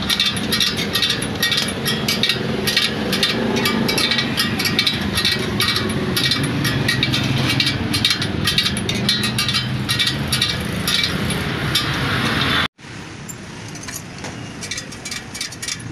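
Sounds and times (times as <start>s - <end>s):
metal spokes clinking on rim: 0.0s - 12.7s, 13.3s - 15.9s
steady mechanical rumble: 0.0s - 15.9s.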